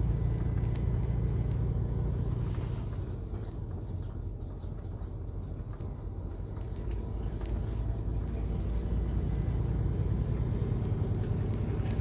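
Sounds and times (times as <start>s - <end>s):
road noise: 0.0s - 12.0s
truck engine rumble inside cab: 0.0s - 12.0s.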